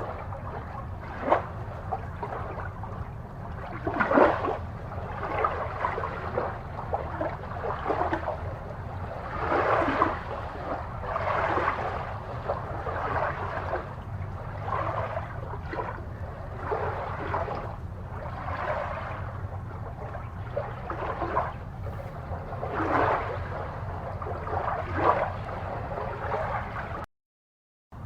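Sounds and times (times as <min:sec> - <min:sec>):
steady low rumble: 0:00.0 - 0:27.1
water swishing and gurgling: 0:00.0 - 0:27.1.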